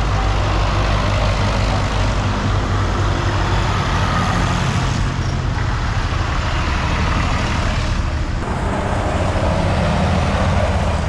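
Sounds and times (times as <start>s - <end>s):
tractor engines driving past: 0.0s - 11.0s.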